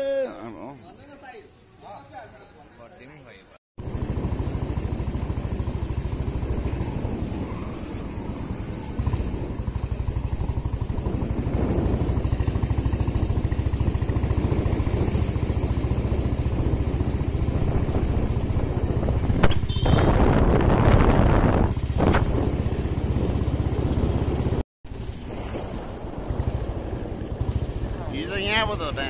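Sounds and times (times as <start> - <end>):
motorcycle engine running: 3.8 - 29.0.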